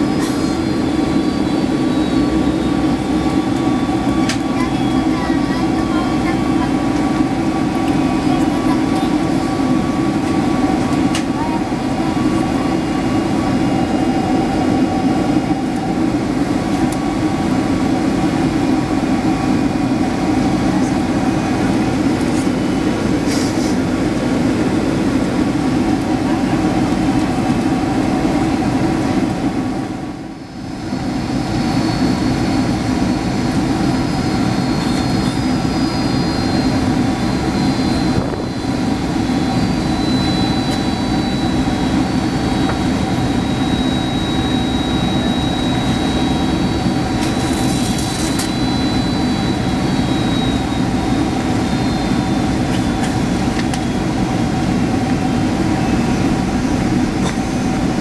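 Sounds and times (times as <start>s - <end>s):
jet engines droning: 0.0s - 58.0s
rushing air in aircraft cabin: 0.0s - 58.0s.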